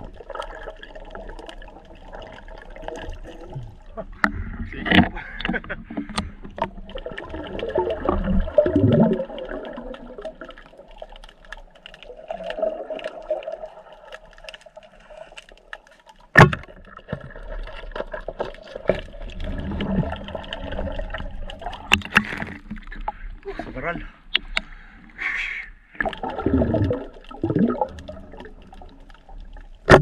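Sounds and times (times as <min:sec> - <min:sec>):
underwater bubbling: 0:00.0 - 0:30.0.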